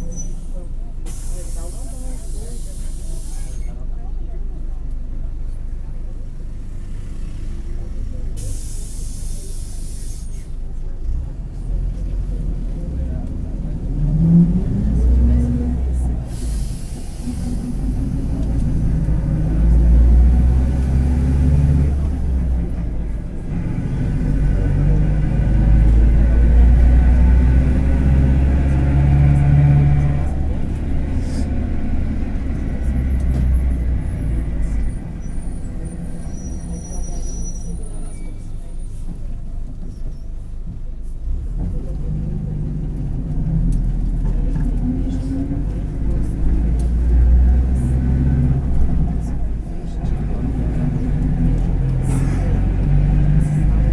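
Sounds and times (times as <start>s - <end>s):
bus diesel engine rumbling: 0.0s - 53.9s.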